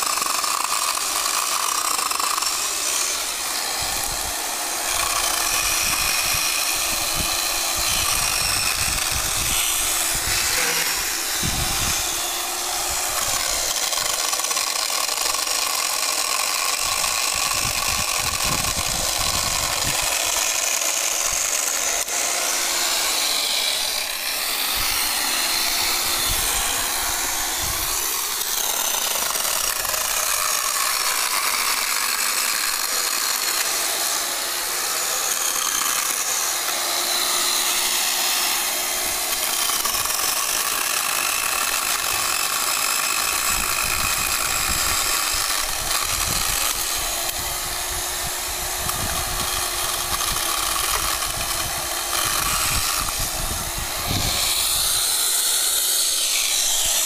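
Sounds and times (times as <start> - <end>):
electric chainsaw cutting wood: 0.0 - 57.0.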